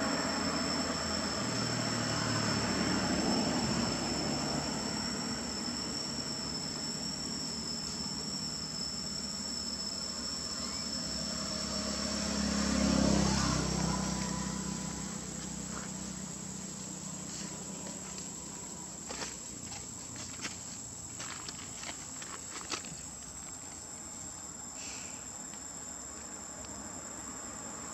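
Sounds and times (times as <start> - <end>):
low engine hum: 0.0 - 23.0
high-pitched insect drone: 0.0 - 27.9.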